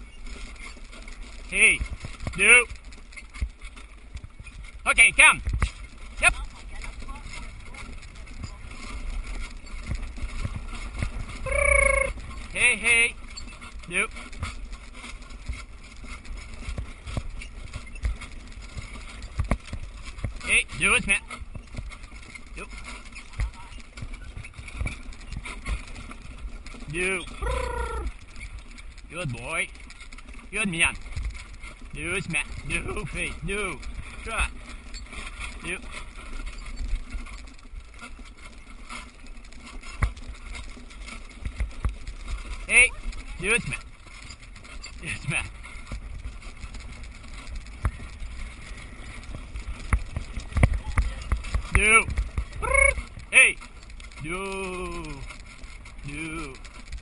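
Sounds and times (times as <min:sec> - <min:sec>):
carriage and harness rattling: 0:00.0 - 0:57.0.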